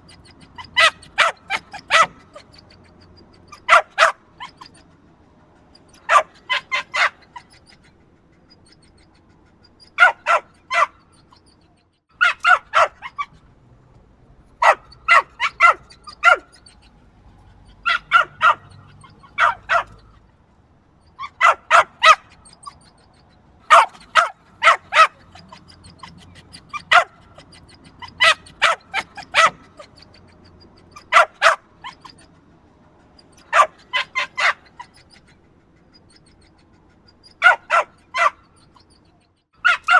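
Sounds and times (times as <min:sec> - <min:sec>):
small dog yapping: 0:00.0 - 0:05.0, 0:05.7 - 0:11.6, 0:12.2 - 0:13.5, 0:14.6 - 0:20.3, 0:21.1 - 0:32.4, 0:33.0 - 0:39.9.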